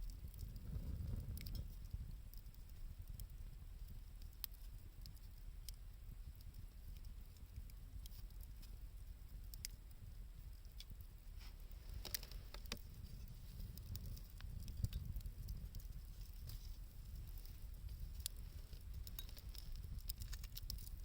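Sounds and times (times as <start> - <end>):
campfire crackling and popping: 0.0 - 21.0
low rumble of blizzard wind: 0.0 - 21.0.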